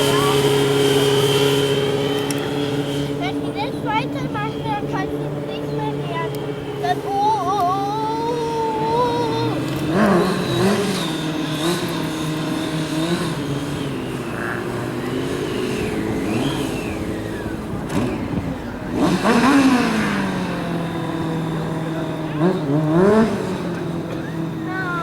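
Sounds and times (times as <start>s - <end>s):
vehicle engines revving: 0.0s - 25.0s.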